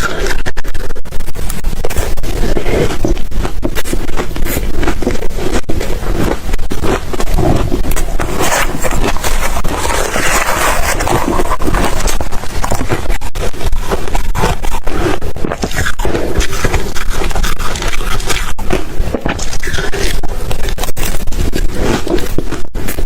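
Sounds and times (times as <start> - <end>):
ice being chewed and crunched: 0.0 - 23.0.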